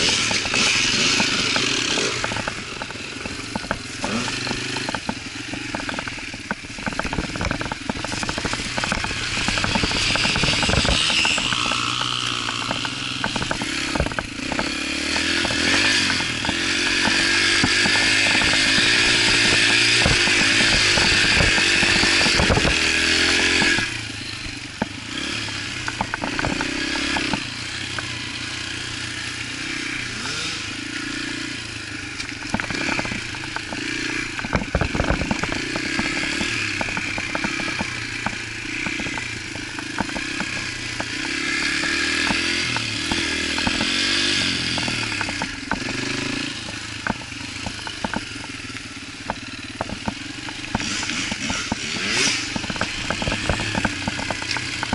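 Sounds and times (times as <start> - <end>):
bike clattering over rough ground: 0.0 - 54.9
dirt bike engine revving: 0.0 - 54.9.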